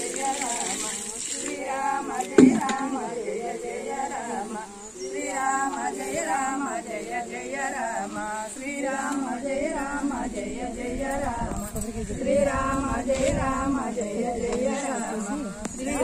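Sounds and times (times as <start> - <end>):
women singing devotional song: 0.0 - 16.0.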